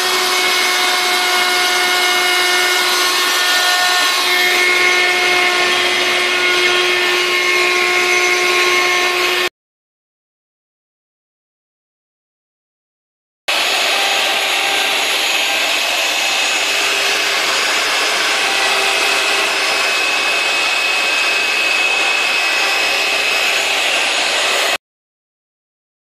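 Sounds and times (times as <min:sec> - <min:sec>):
shop vacuum running: 0:00.0 - 0:09.5, 0:13.5 - 0:24.8.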